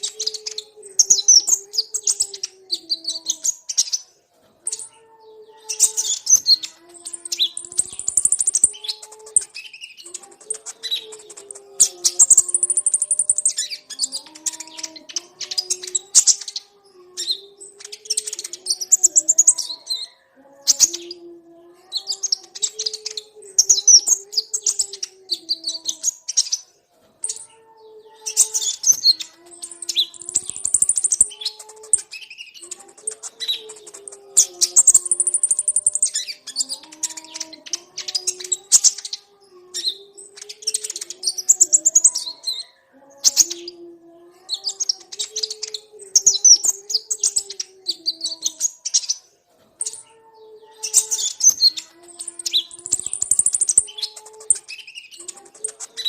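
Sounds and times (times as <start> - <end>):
birds twittering and chirping: 0.0 - 56.0.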